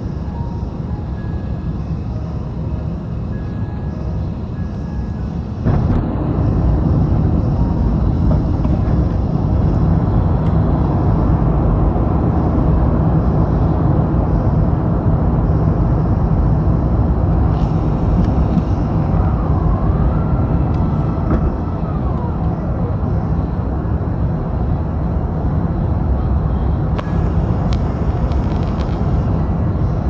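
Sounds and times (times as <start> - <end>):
airplane cabin rumble: 0.0 - 30.0
faint whine: 0.0 - 30.0.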